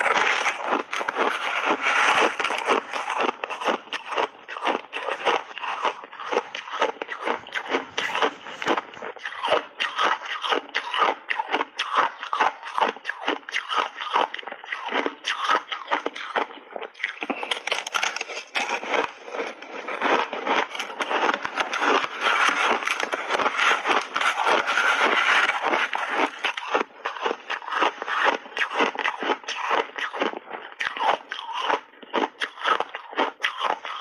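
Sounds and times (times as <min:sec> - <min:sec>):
crushed ice being chewed: 0:00.0 - 0:34.0.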